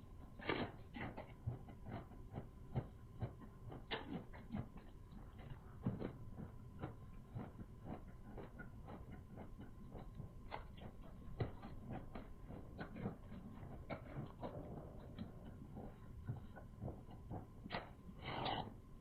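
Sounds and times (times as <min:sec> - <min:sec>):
chewing and mouth smacks: 0:00.4 - 0:18.7.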